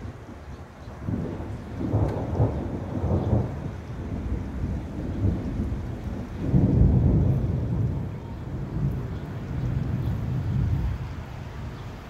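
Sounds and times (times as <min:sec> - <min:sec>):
rain falling: 0:00.0 - 0:12.0
thunder rolling: 0:01.0 - 0:11.8.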